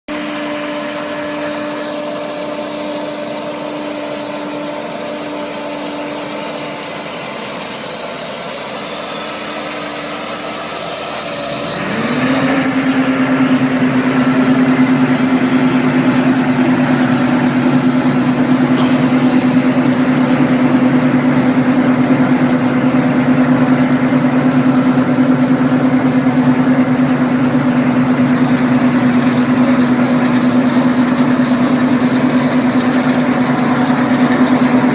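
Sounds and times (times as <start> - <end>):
harvester engine humming: 0.1 - 34.9.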